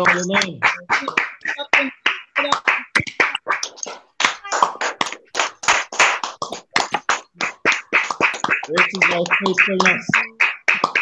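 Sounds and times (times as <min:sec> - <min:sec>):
people clapping: 0:00.0 - 0:11.0.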